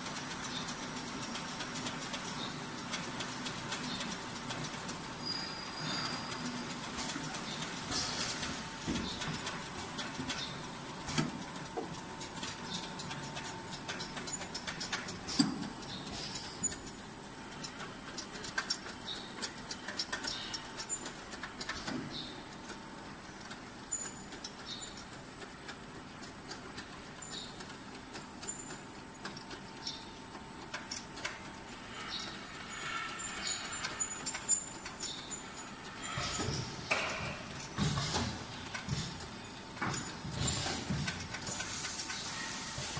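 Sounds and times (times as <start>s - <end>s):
faint high machine whine: 0.0s - 42.9s
machine clicks and clattering: 0.0s - 42.9s.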